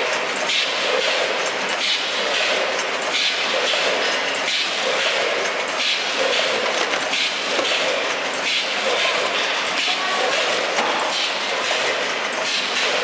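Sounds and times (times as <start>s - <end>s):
bagging machine clattering: 0.0s - 13.0s.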